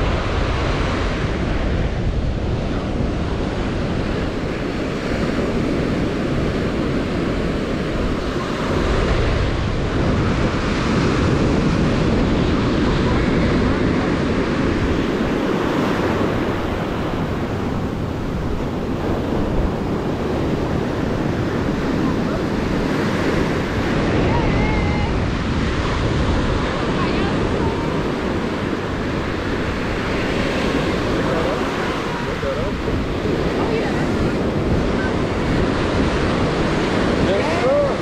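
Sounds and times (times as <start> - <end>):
surf washing up a beach: 0.0 - 38.0
wind buffeting microphone: 0.0 - 38.0.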